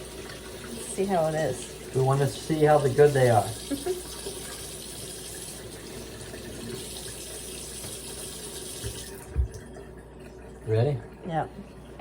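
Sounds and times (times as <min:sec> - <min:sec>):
tap water running: 0:00.0 - 0:12.0.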